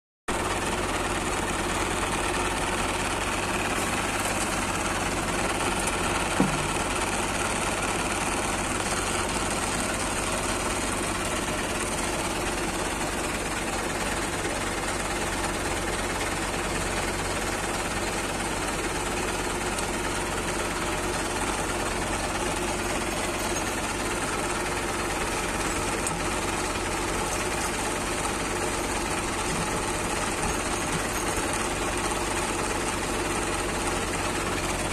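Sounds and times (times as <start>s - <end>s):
tractor engine idling: 0.3s - 34.9s.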